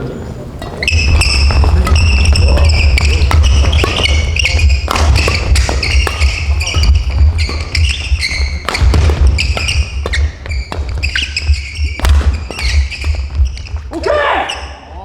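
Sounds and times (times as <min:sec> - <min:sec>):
sneakers squeaking on floor: 0:00.5 - 0:15.0
racket striking shuttlecock: 0:00.8 - 0:14.1
feet thudding: 0:00.9 - 0:14.6.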